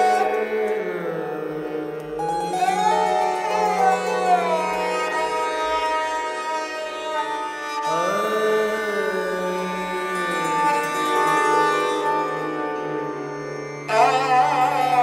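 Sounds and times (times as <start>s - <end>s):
gliding melody of long notes: 0.0s - 14.0s.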